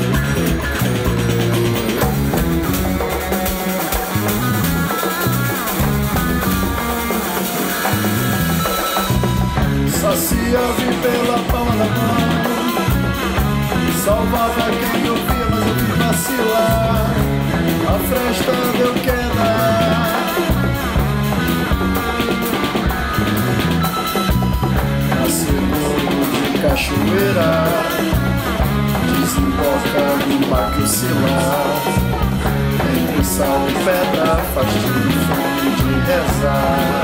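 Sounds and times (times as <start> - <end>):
drum kit beat: 0.0 - 37.0
rock band playing: 0.0 - 37.0.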